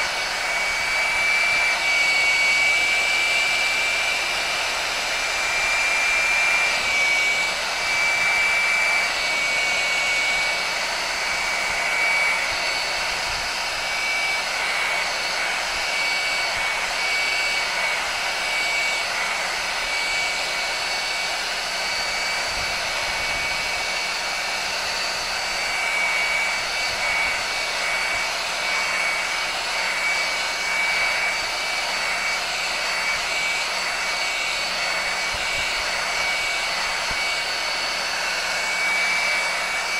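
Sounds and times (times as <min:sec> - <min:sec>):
heat gun blowing air: 0:00.0 - 0:39.9.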